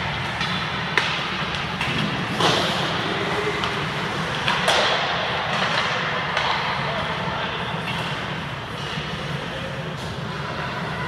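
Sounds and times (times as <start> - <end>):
pucks hitting boards: 0.0 - 9.4
hockey sticks hitting pucks: 0.0 - 11.0
steady background hum: 0.0 - 11.0.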